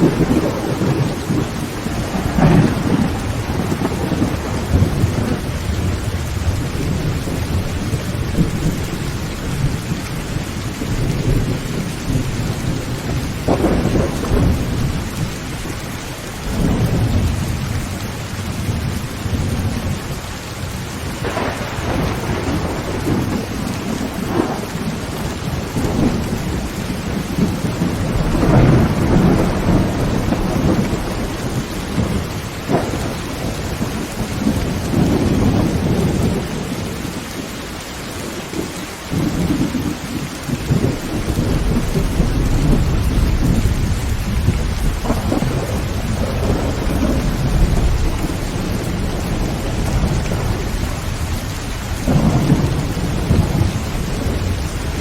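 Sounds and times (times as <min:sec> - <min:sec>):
heavy rain on a tin roof: 0:00.0 - 0:55.0
thunder rumbling: 0:00.0 - 0:55.0.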